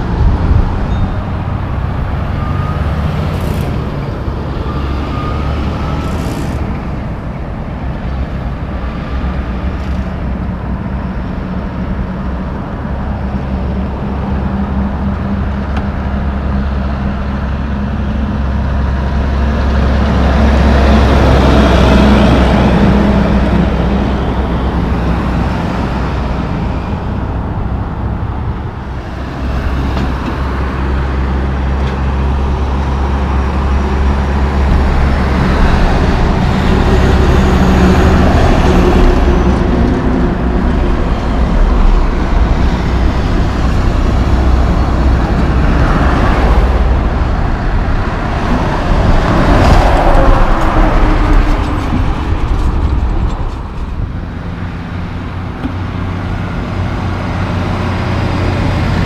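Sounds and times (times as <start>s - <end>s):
diesel truck engines: 0.0s - 59.0s
highway traffic: 0.0s - 59.0s
tyre road noise: 0.0s - 59.0s.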